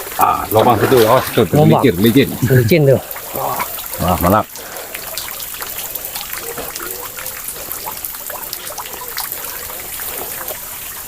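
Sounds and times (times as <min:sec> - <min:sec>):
river water trickling: 0:00.0 - 0:11.0
water drips and splashes: 0:00.0 - 0:11.0.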